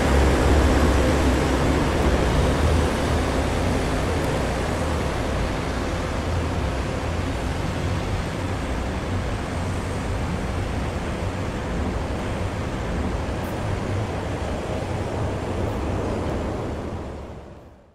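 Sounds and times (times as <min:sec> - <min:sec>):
diesel railcar rumbling past: 0:00.0 - 0:17.9.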